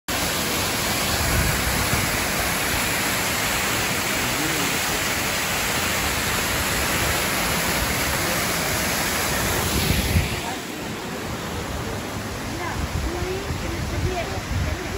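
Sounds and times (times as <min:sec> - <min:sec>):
waterfall rushing: 0:00.1 - 0:14.9.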